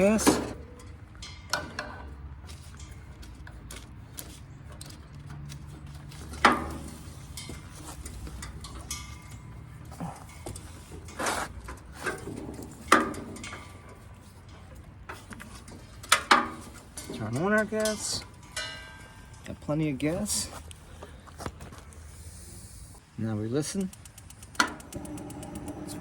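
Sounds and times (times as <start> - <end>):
metal clicks and knocks: 0.0 - 19.6, 23.8 - 26.0.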